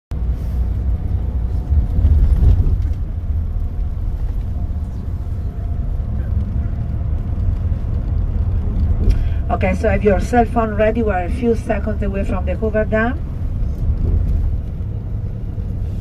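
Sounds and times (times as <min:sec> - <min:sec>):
coach engine and road rumble: 0:00.1 - 0:16.0.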